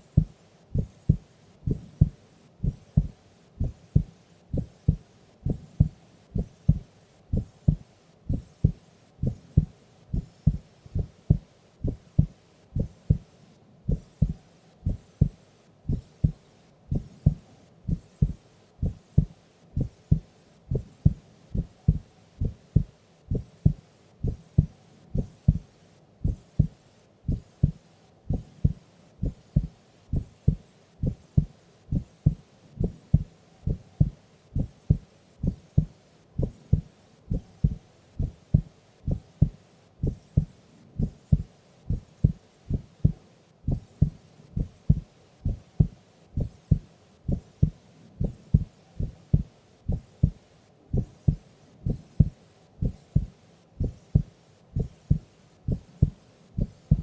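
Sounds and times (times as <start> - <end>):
heartbeat thumps: 0.0 - 13.3, 13.9 - 57.0.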